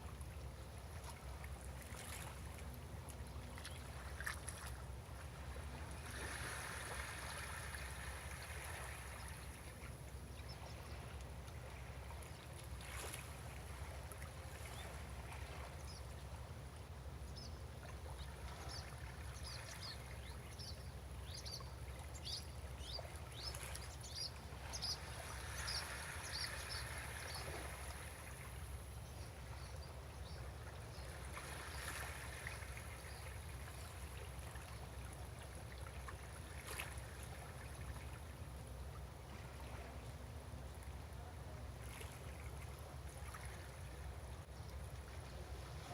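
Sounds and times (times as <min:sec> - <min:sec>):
water lapping and splashing: 0:00.0 - 0:45.9.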